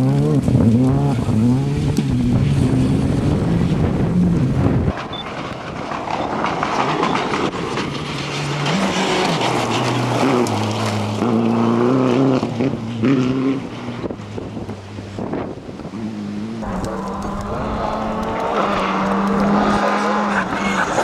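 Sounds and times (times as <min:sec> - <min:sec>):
constant rushing noise: 0:00.0 - 0:21.0
rally car engine revving: 0:00.0 - 0:21.0.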